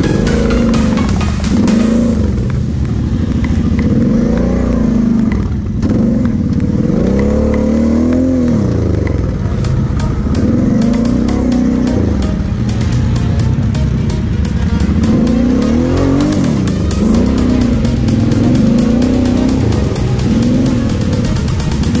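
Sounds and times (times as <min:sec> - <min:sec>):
background music: 0:00.0 - 0:22.0
quad bike engine revving: 0:00.0 - 0:22.0.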